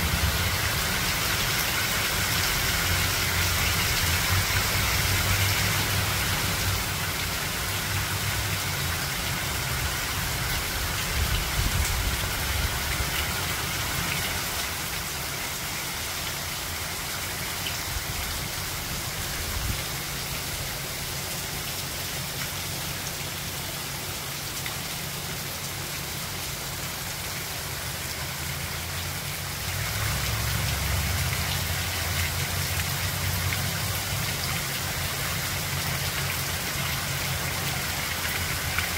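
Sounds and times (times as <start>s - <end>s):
heavy rain on paving: 0.0s - 38.9s.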